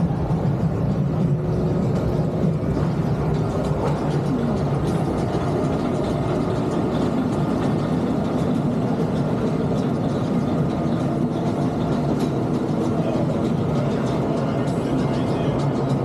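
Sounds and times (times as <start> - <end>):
roller coaster on track: 0.0 - 16.0.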